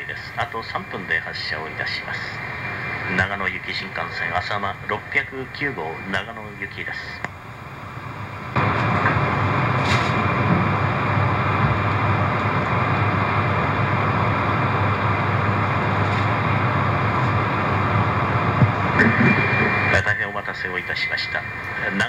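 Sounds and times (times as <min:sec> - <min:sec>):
train mechanical running noise: 0:00.0 - 0:22.0.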